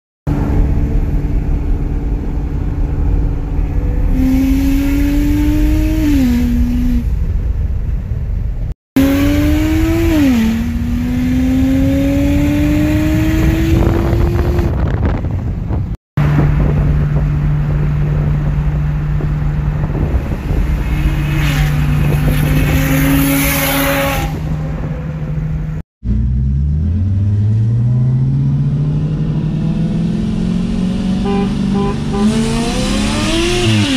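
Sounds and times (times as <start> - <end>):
car engine revving: 0.3 - 7.4, 9.0 - 33.9.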